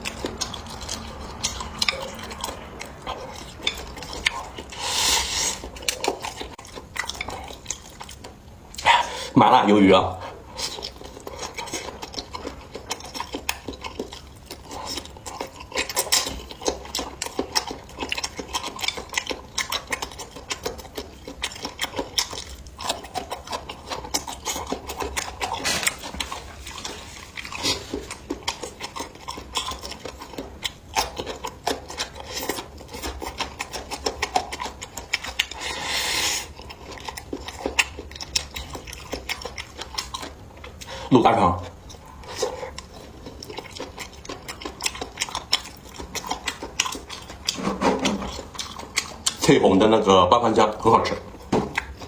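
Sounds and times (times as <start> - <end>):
chewing food: 0.0 - 52.0.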